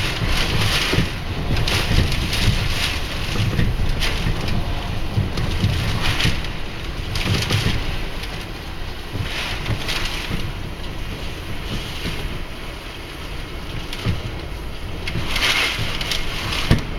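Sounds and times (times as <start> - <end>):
low buffeting thumps: 0.0 - 16.9
rain against a window: 0.0 - 16.9
strong wind gusts: 0.0 - 16.9.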